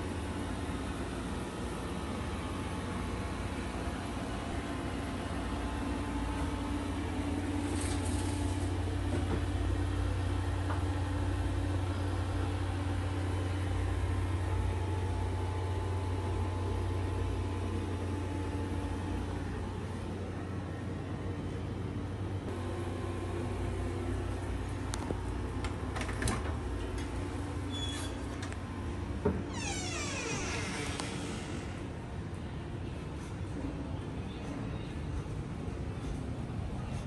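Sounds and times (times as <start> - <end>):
low machine hum: 0.0 - 37.0.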